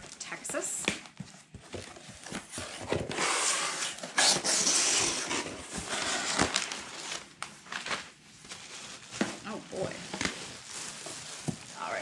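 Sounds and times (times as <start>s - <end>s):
parcel wrapping rustling: 0.0s - 12.0s.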